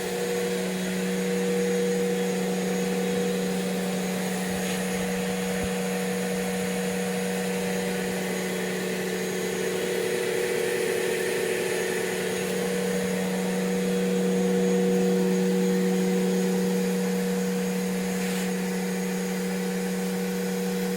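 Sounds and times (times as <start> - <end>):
washing machine motor hum: 0.0 - 20.9.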